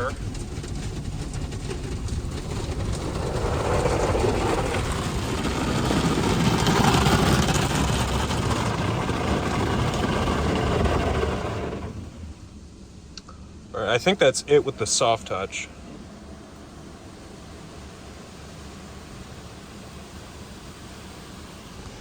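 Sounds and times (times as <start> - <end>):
car wash brushes scrubbing: 0.0 - 12.8, 13.8 - 22.0.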